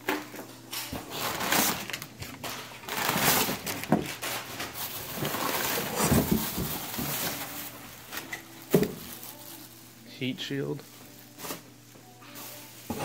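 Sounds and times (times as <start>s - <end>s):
plastic bags and paper rustling: 0.0s - 13.0s.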